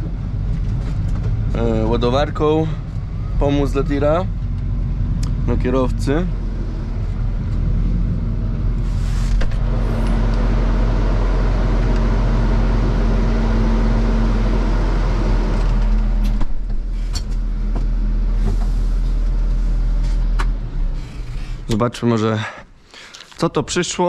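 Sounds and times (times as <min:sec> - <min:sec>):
tractor diesel engine running: 0:00.0 - 0:21.7.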